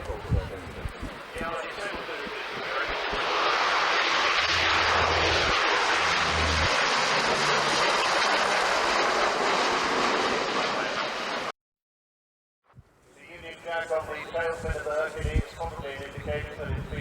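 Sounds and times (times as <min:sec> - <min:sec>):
turboprop aircraft roar: 0:00.0 - 0:11.5, 0:13.2 - 0:17.0.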